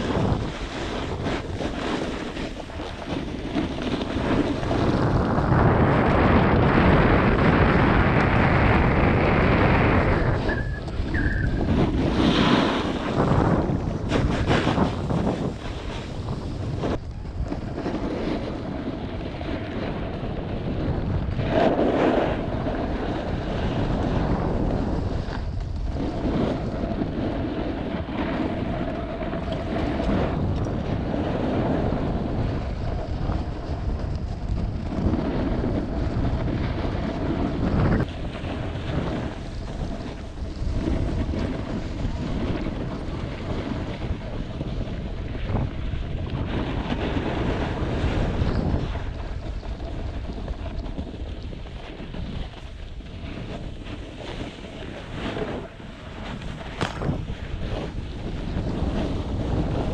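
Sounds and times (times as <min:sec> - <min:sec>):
skis scraping packed snow: 0:00.0 - 0:59.9
wind buffeting microphone: 0:00.0 - 0:59.9.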